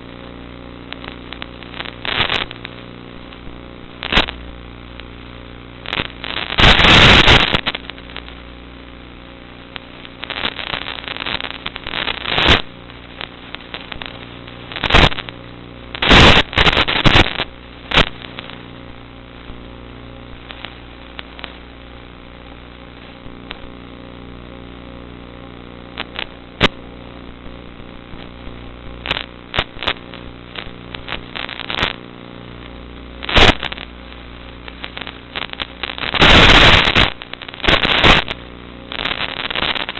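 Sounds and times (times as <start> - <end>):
loud crackling bursts: 0.0 - 39.9.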